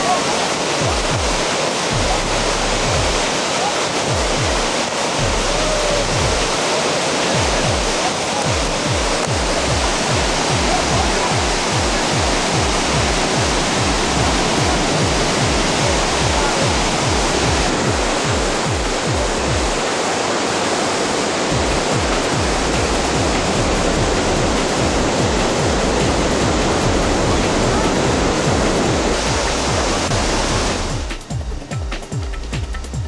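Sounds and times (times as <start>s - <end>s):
waterfall roaring onto rocks: 0.0s - 32.7s.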